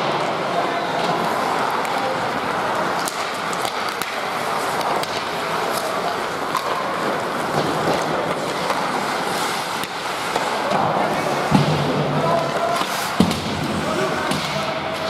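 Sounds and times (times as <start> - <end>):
skates scraping on ice: 0.0 - 15.0
sticks clicking on puck: 1.0 - 15.0.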